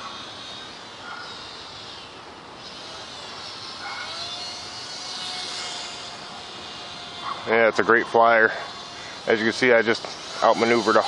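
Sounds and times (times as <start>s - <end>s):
model plane motor whining: 0.0s - 11.0s.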